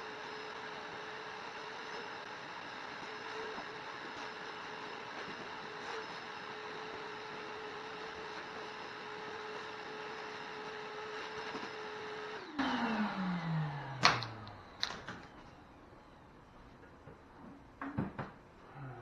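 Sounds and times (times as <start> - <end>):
vacuum motor whining: 0.0 - 16.4.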